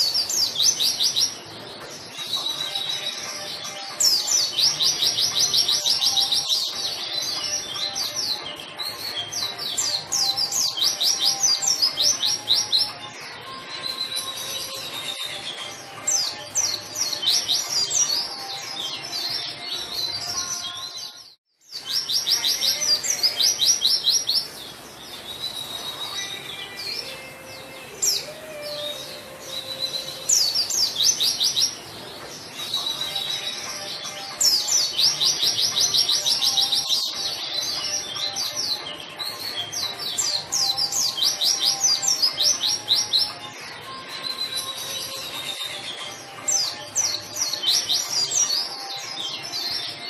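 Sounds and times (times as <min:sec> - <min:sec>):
bird song with rattling high notes: 0:00.0 - 0:50.0.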